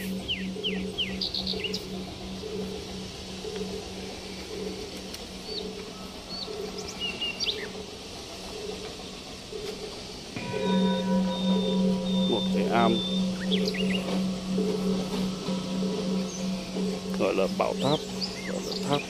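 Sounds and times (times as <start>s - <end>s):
ambient music drone: 0.0s - 19.0s
small birds chirping: 0.0s - 19.0s.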